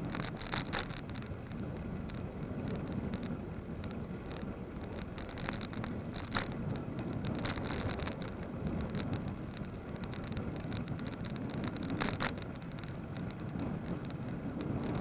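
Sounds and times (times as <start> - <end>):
bicycle rattling over bumps: 0.0 - 15.0
wind and tyres rumbling on road: 0.0 - 15.0.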